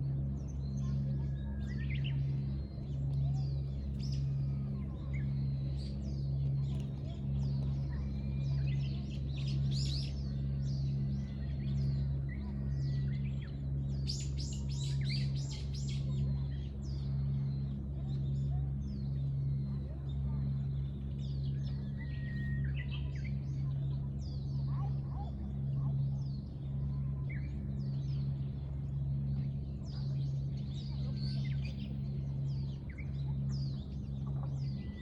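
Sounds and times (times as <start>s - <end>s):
small birds chirping and trilling: 0.0s - 35.0s
steady low hum: 0.0s - 35.0s.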